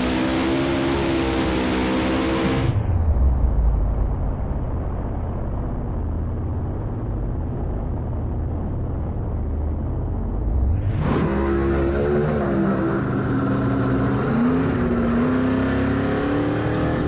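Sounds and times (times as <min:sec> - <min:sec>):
muffled engine rumble: 0:01.7 - 0:15.5.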